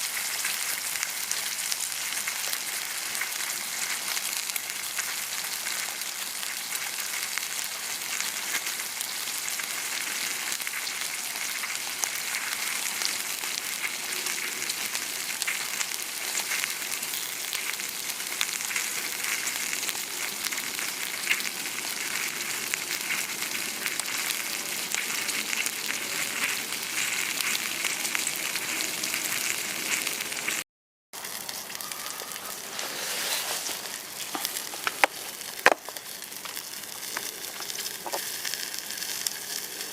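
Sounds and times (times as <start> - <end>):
steak sizzling over fire: 0.0 - 30.6, 31.2 - 39.9.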